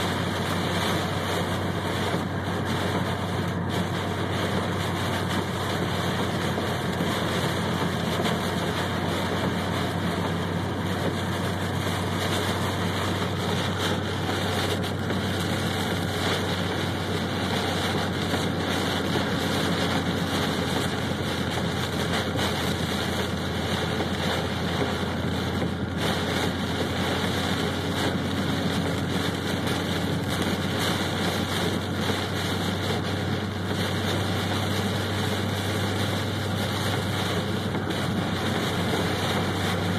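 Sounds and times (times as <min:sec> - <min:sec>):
heavy rain on car roof: 0:00.0 - 0:39.9
low engine drone: 0:00.0 - 0:39.9.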